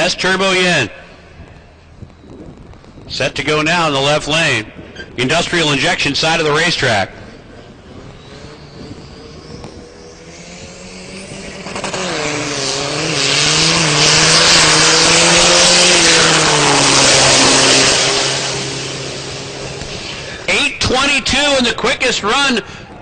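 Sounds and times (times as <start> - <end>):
diesel truck engine at full throttle: 0.0 - 23.0.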